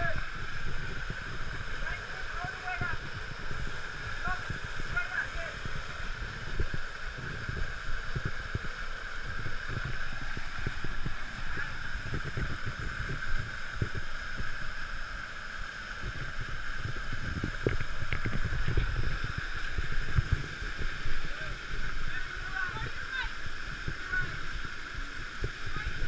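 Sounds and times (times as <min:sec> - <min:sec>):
wind buffeting microphone: 0:00.0 - 0:14.8, 0:15.9 - 0:24.4
water falling and flowing: 0:00.0 - 0:26.0.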